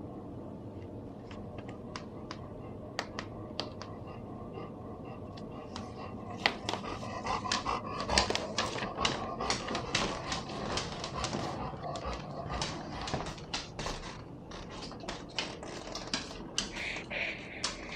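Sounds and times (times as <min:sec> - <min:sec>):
dog panting: 0:02.3 - 0:17.9.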